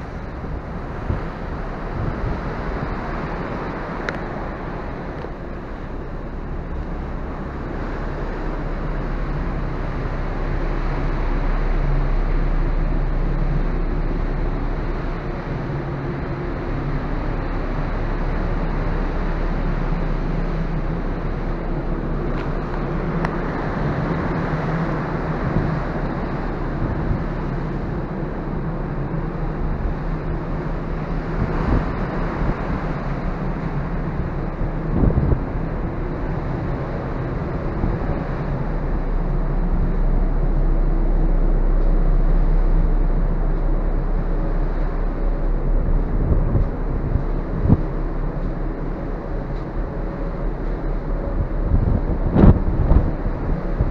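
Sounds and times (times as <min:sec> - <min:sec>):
ferry engines droning: 0:00.0 - 0:53.9
wind blowing across microphone: 0:00.0 - 0:53.9.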